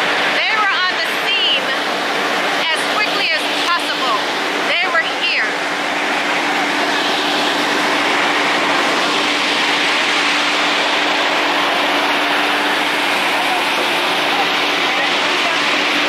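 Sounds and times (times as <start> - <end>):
fire engine running: 0.0 - 16.0.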